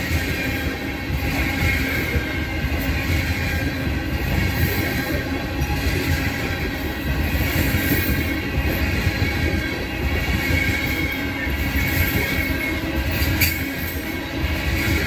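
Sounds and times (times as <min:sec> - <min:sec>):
high wheel squeal: 0:00.0 - 0:15.0
train wheels rumbling on rails: 0:00.0 - 0:15.0.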